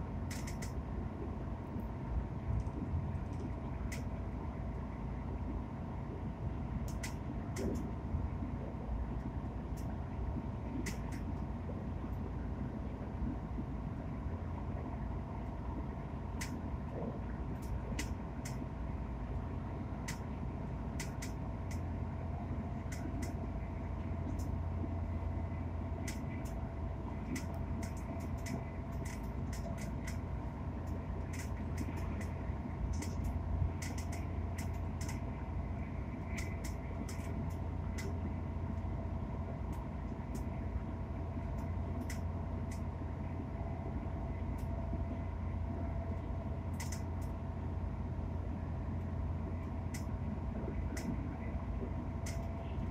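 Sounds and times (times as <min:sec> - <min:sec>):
train interior rumble and whine: 0:00.0 - 0:52.9.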